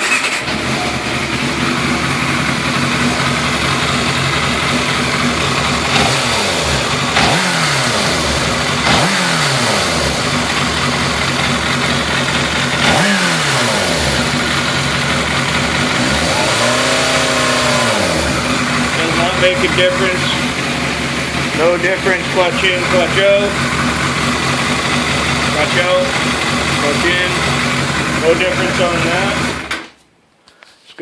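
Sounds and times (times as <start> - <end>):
engine ticking: 0.0 - 29.8
motorcycle engine idling and revving: 0.0 - 29.8.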